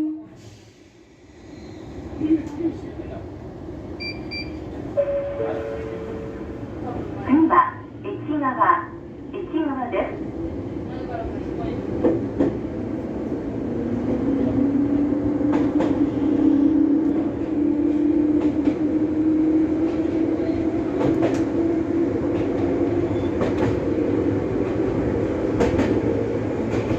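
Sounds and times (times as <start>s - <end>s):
train motor and gear hum: 0.0s - 26.9s.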